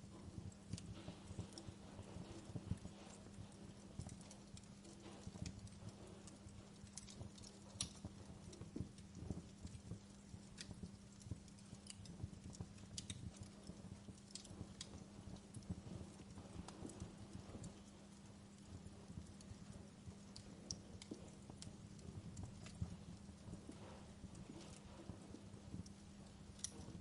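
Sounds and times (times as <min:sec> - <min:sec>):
low steady hum: 0:00.0 - 0:27.0
wood fire crackling: 0:00.0 - 0:27.0.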